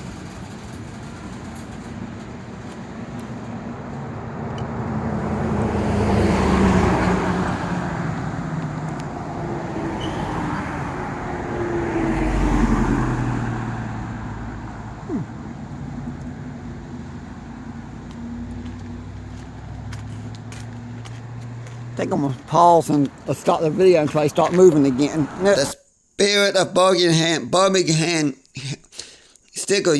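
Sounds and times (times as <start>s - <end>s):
road vehicles passing by: 0.0s - 25.7s.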